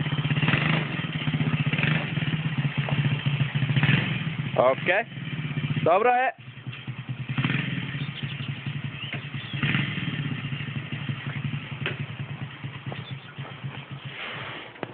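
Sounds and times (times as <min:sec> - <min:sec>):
quad bike engine running: 0:00.0 - 0:14.9.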